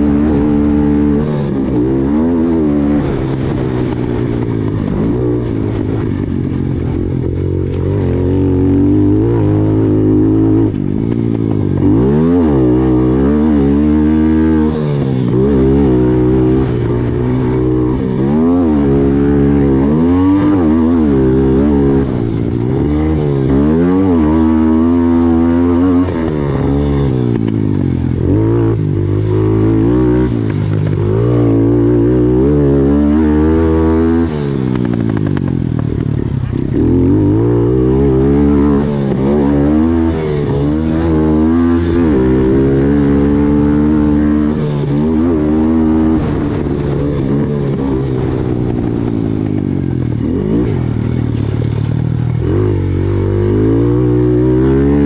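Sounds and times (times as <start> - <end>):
drone of engines: 0.0 - 24.4, 25.3 - 54.8
small motorcycle engines revving: 0.0 - 55.0.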